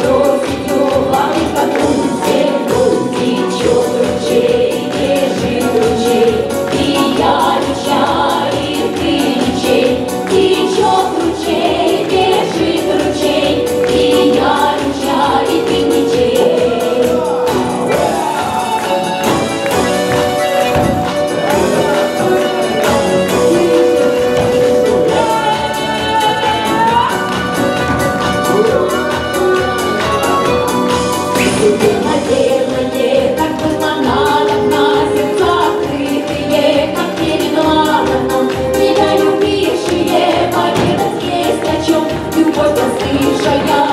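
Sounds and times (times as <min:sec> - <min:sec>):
accordion: 0:00.0 - 0:43.9
group of voices singing: 0:00.0 - 0:43.9.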